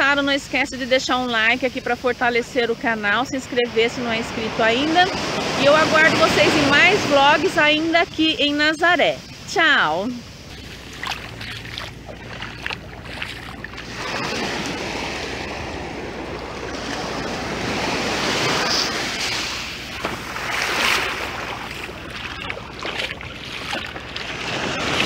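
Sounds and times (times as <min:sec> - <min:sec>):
ocean surf washing on beach: 0:00.0 - 0:25.0
wind rumble on microphone: 0:01.4 - 0:25.0.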